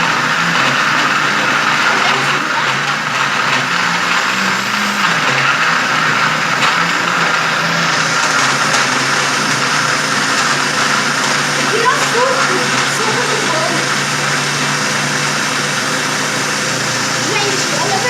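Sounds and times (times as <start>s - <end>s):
electric mixer whirring: 0.0s - 18.0s.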